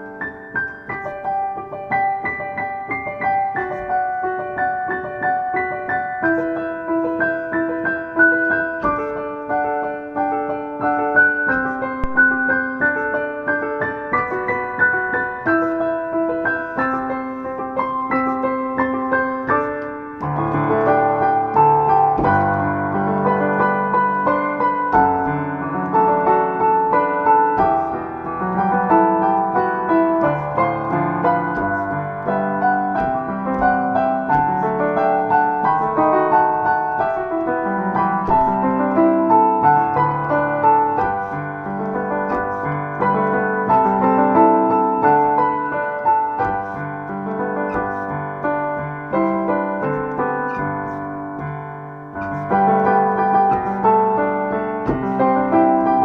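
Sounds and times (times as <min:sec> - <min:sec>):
solo piano pop ballad: 0:00.0 - 0:56.0.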